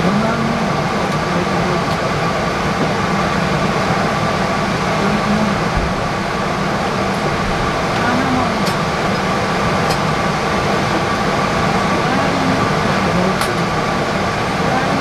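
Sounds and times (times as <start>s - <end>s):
air-conditioning airflow rumble: 0.0s - 15.0s.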